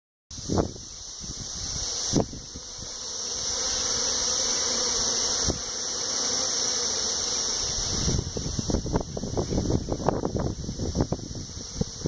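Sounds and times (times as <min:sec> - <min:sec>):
honeybees buzzing: 0:00.4 - 0:12.0.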